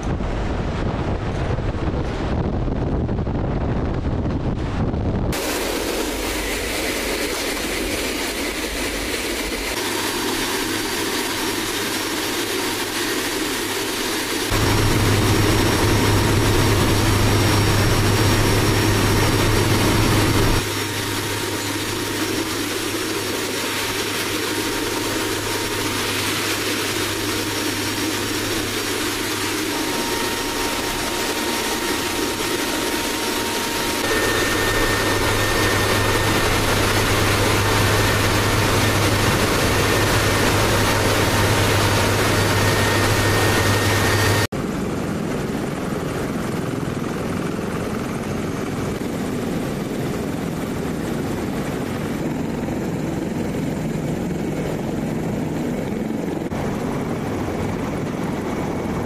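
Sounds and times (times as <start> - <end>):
aircraft engine drone in cabin: 0.0 - 59.0.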